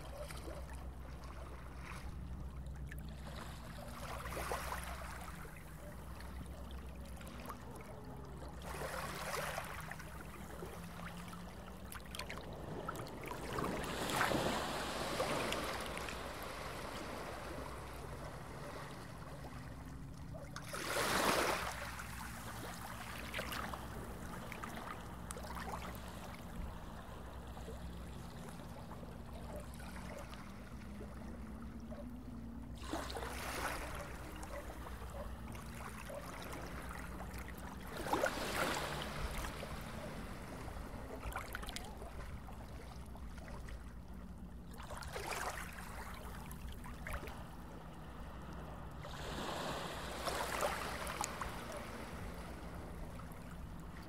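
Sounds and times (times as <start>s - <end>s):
rushing water swell: 0.0s - 54.0s.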